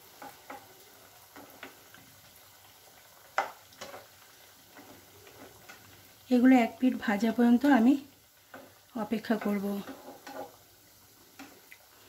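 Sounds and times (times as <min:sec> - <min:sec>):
faint frying sizzle: 0:00.0 - 0:12.0.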